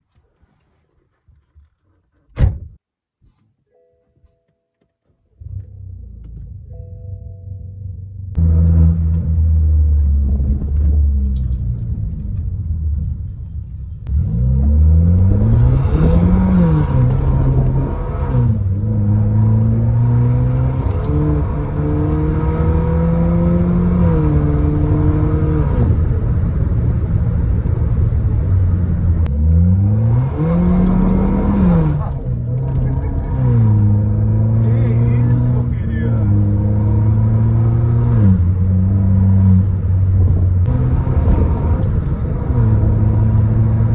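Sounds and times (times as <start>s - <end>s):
car engine starting and revving: 5.3s - 43.9s.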